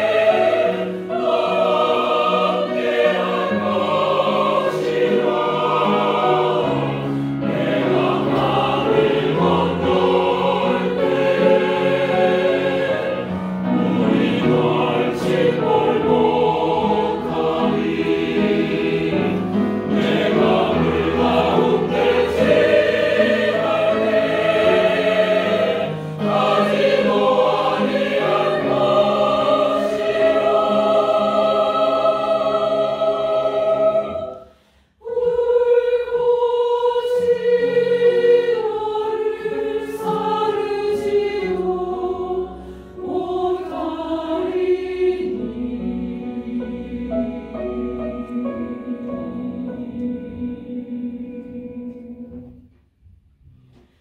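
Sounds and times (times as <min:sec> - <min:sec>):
mixed choir singing: 0:00.0 - 0:52.7.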